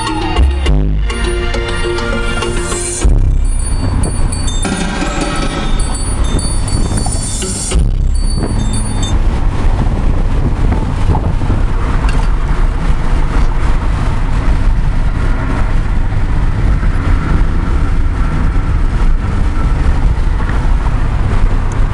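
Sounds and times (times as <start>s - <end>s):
car cabin engine and road drone: 0.0s - 21.9s.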